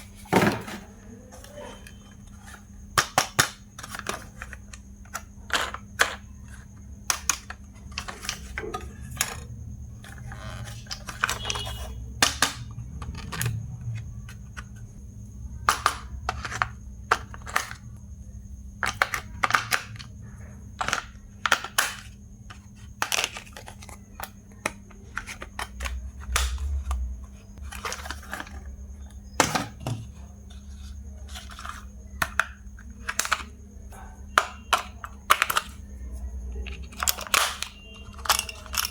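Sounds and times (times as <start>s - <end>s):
faint steady hum: 0.0s - 38.9s
plastic parts clicking and rattling: 0.2s - 14.9s, 15.7s - 18.0s, 18.8s - 20.2s, 20.8s - 35.8s, 36.4s - 38.9s.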